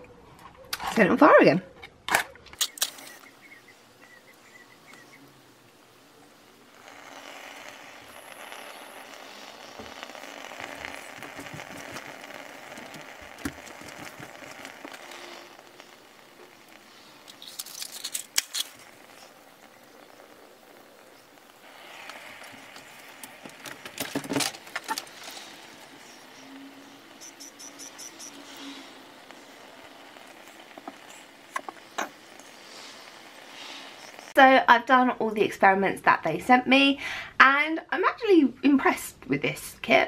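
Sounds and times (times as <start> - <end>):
faint hiss of burning: 2.6 - 34.9.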